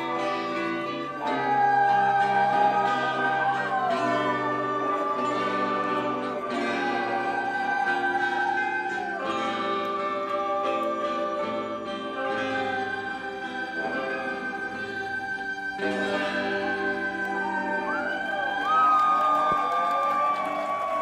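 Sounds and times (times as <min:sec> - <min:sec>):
live rock band playing: 0:00.0 - 0:18.6.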